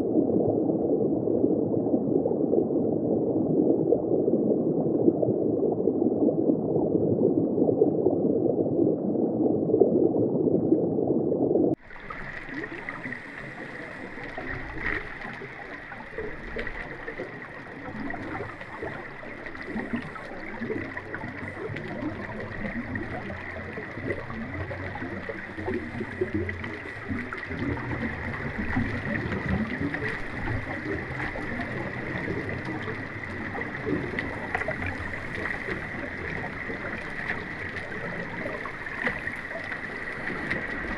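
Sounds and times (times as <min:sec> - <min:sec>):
muffled underwater water noise: 0:00.0 - 0:40.9.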